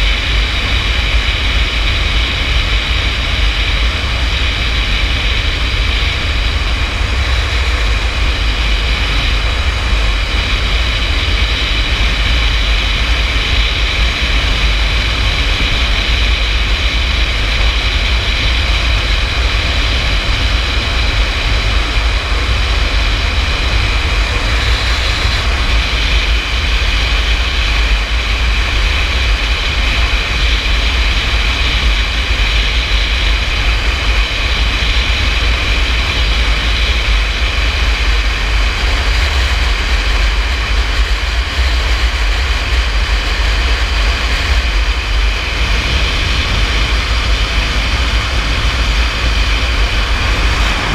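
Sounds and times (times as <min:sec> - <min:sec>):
motorcycle engine running evenly: 0:00.0 - 0:50.9
wind rumble on microphone: 0:00.0 - 0:50.9.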